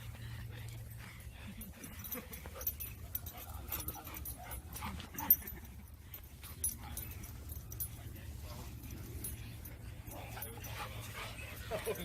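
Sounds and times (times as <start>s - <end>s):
dogs whimpering and yipping: 1.2s - 12.0s.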